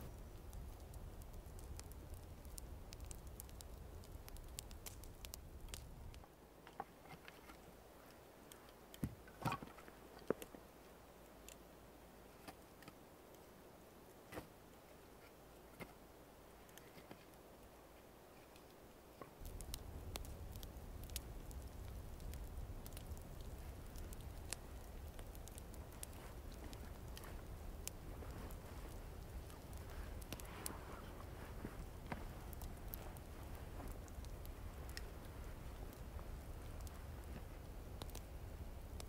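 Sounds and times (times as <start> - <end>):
campfire crackling: 0.0 - 39.0.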